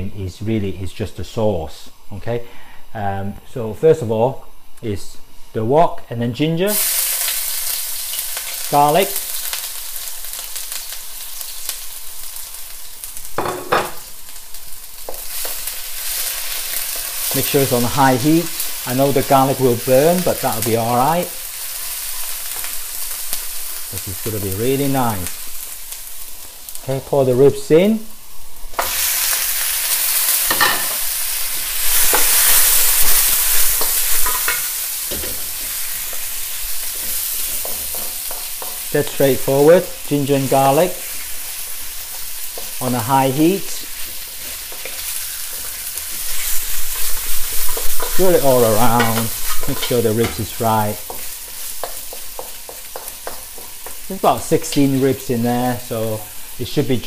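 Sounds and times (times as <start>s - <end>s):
garlic sizzling in hot oil: 6.7s - 57.0s.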